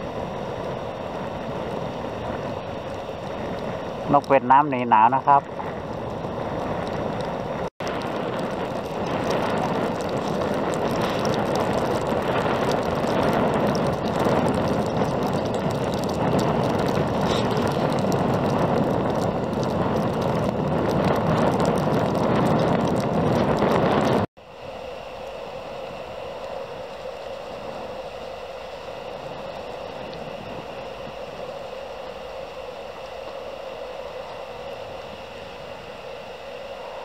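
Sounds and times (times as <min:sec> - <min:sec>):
strong wind on microphone: 0:00.0 - 0:37.0.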